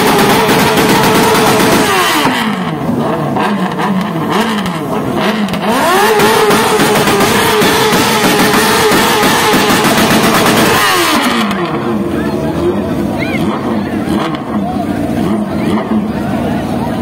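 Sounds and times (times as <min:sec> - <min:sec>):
engine revving high: 0:00.0 - 0:17.0.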